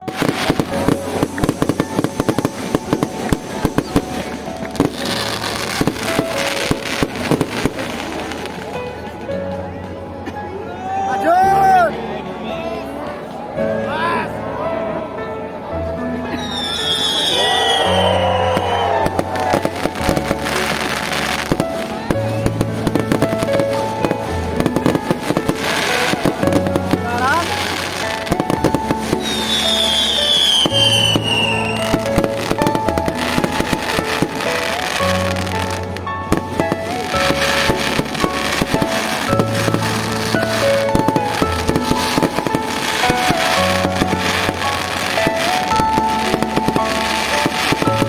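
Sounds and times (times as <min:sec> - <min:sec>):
crackling hiss: 0:00.0 - 0:08.8, 0:17.0 - 0:48.0
fireworks bangs: 0:00.0 - 0:09.2, 0:16.4 - 0:48.0.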